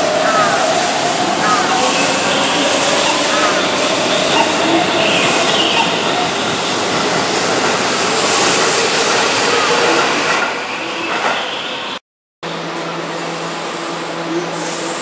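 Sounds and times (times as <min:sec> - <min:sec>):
train rushing past platform: 0:00.0 - 0:15.0.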